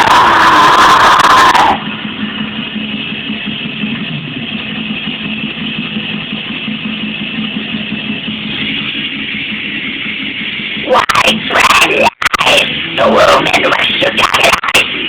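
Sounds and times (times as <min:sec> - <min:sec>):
muffled death metal music: 0:00.0 - 0:15.0.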